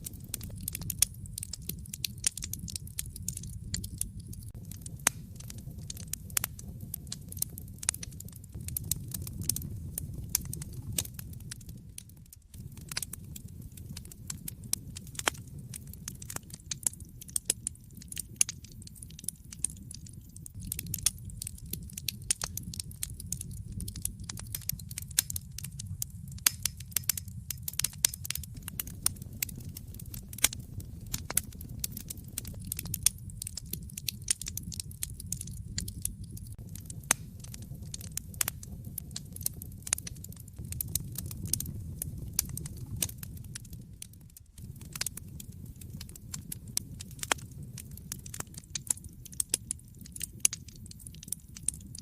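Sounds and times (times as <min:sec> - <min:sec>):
fire popping and snapping: 0:00.0 - 0:52.0
low rumble of burning: 0:00.0 - 0:52.0.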